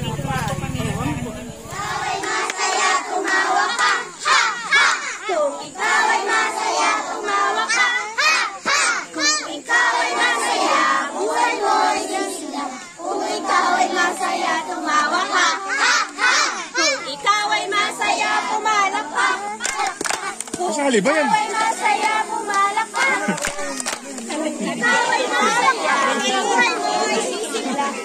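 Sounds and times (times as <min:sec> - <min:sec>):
children shouting: 0:01.6 - 0:20.6, 0:21.4 - 0:28.0.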